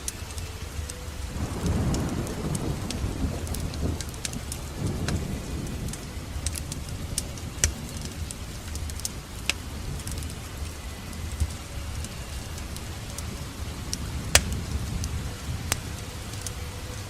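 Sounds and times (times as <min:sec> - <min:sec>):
fire crackling and popping: 0:00.0 - 0:17.0
steady low rumble: 0:00.0 - 0:17.0.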